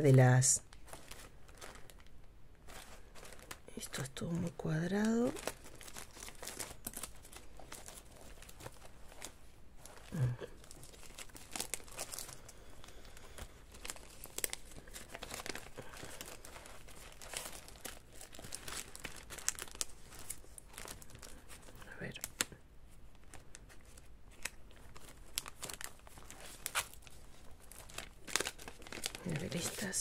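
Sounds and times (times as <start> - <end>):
paper rustling and crinkling: 0.0 - 30.0.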